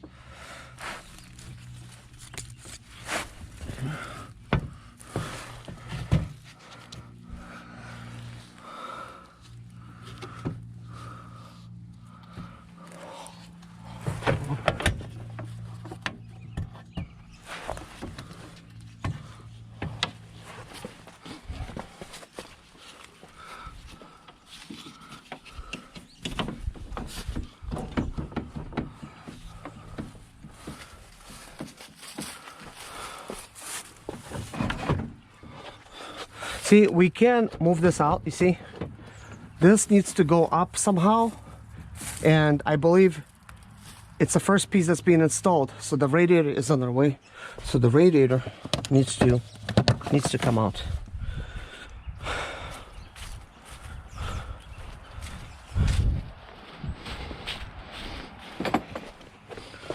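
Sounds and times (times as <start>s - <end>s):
steady low hum: 0.0s - 49.6s.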